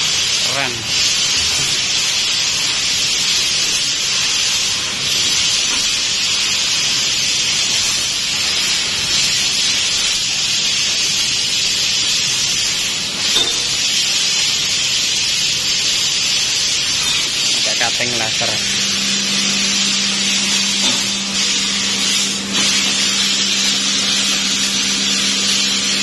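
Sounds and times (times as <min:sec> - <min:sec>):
laser cutting machine hissing: 0:00.0 - 0:26.0.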